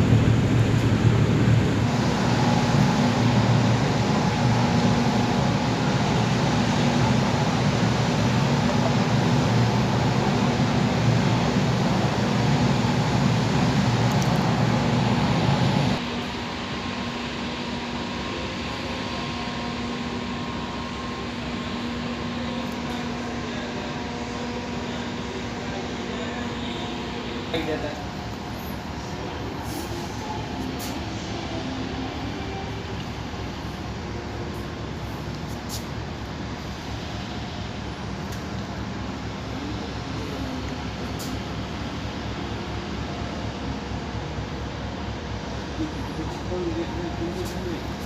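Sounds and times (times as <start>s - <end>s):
mechanical drone with low hum: 0.0s - 48.0s.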